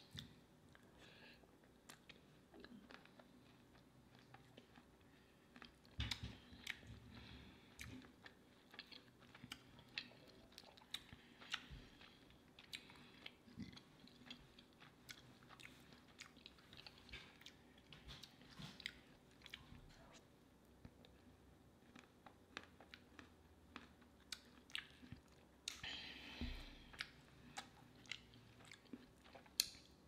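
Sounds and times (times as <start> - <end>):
quiet chewing: 0.0 - 30.0.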